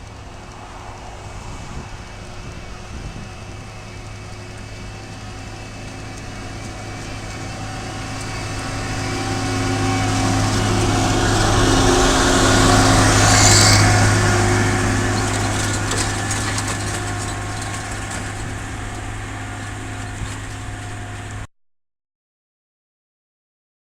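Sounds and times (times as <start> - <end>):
machinery engine droning past: 0.0 - 21.5.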